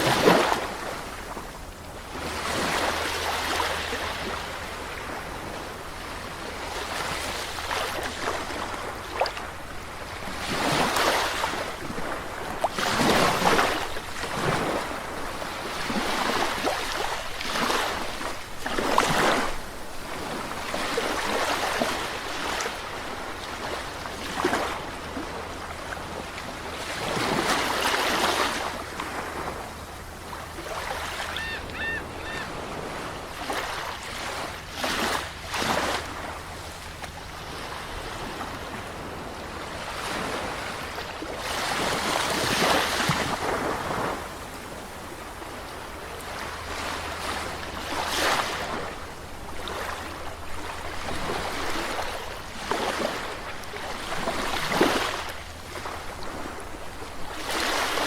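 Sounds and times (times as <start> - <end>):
sea waves breaking ashore: 0.0 - 58.0.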